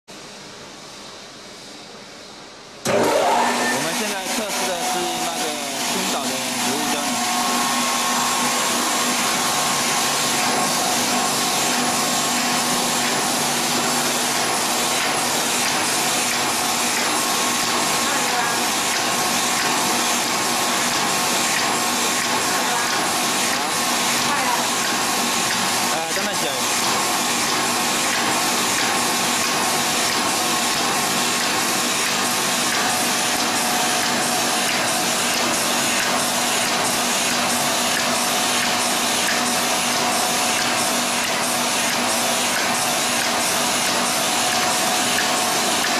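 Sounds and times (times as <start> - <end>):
machine hum and hiss: 0.1 - 45.9.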